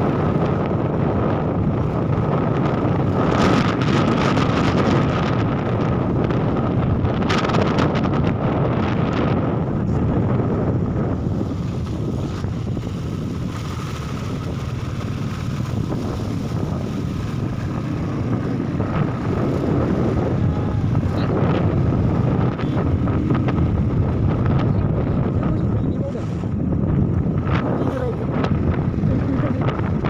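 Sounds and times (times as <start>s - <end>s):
motorcycle engine running: 0.0s - 30.0s
wind buffeting the microphone: 0.0s - 30.0s.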